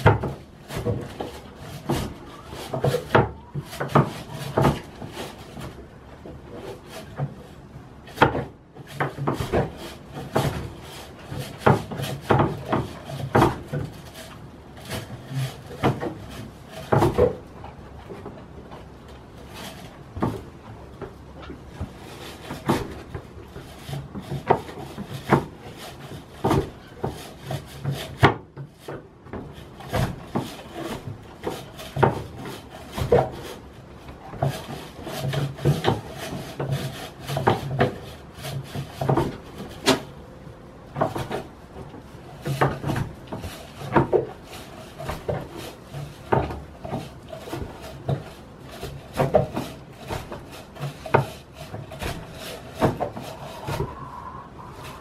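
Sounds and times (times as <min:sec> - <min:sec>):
goat scraping against wooden wall: 0:00.0 - 0:55.0.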